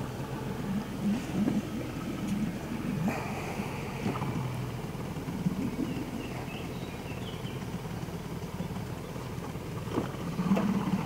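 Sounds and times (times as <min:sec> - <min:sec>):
boat motor low hum: 0:00.0 - 0:11.0.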